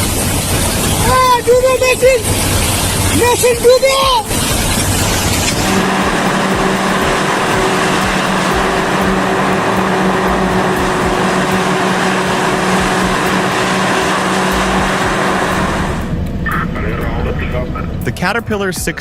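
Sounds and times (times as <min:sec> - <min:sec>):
loud rushing noise: 0:00.0 - 0:16.9
diesel engine humming: 0:00.0 - 0:19.0.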